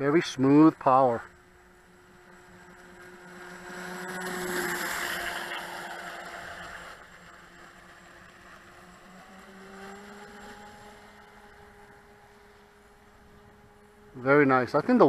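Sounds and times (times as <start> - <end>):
boat motor hum: 0.0 - 15.0.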